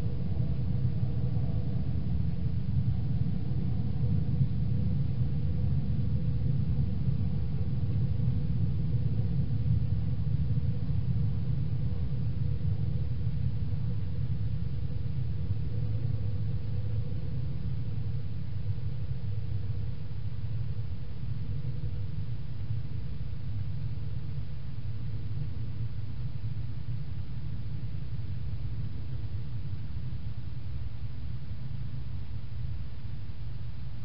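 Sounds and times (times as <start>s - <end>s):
faint hiss: 0.0s - 34.0s
steady low rumble: 0.0s - 34.0s.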